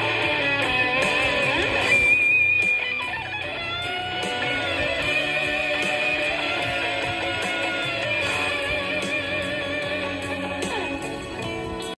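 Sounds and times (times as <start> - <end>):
electric guitar lead with delay: 0.0 - 11.9.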